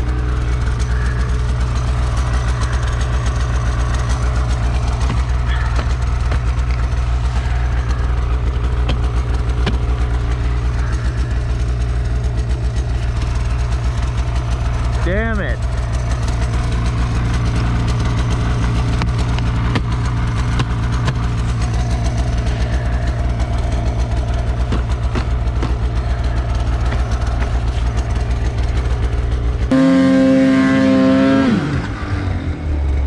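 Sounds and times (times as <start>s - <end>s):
snowmobile engine idling and revving: 0.0s - 33.0s.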